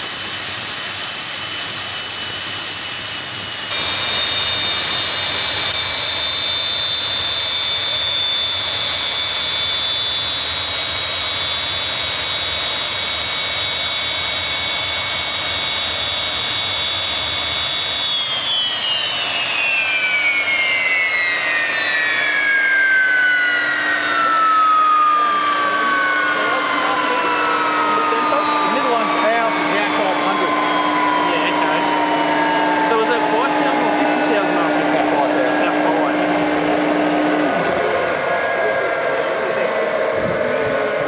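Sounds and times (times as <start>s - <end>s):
turbojet engine whine and rumble: 0.0s - 41.0s.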